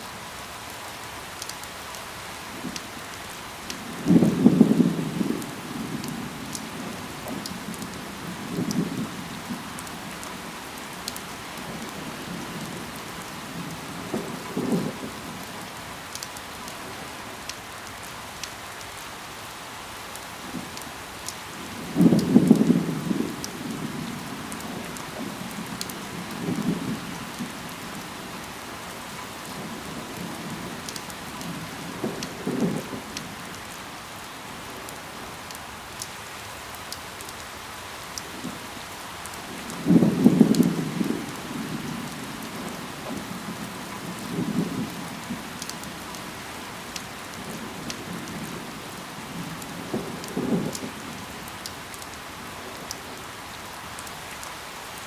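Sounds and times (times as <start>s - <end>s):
steady rain falling: 0.0s - 55.0s
sharp raindrop ticks: 0.7s - 19.1s, 19.9s - 55.0s.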